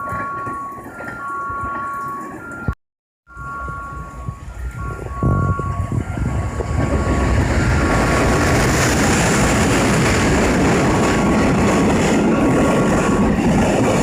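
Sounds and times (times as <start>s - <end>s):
freight train wheels on rail: 0.0s - 14.0s.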